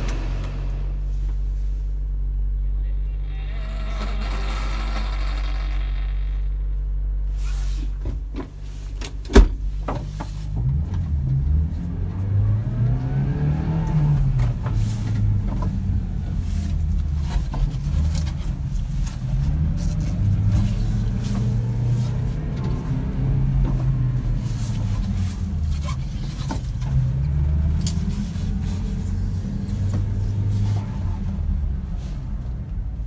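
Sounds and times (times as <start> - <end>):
small truck engine: 0.0 - 1.6, 3.1 - 7.6, 10.4 - 33.0.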